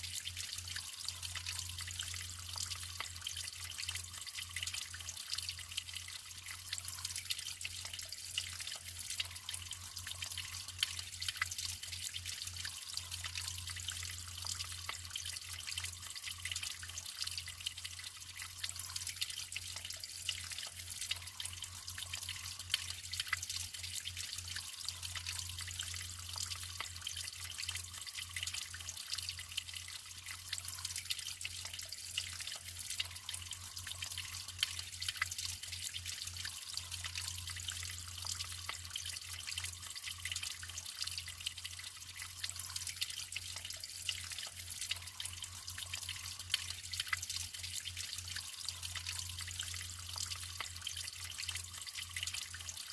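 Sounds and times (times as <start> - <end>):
water flowing and trickling: 0.0 - 52.9
water splashes and drips: 0.0 - 52.9.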